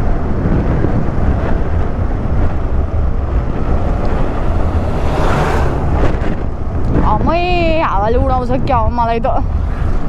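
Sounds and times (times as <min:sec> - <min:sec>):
motorcycle road noise: 0:00.0 - 0:10.0
wind buffeting microphone: 0:00.0 - 0:10.0.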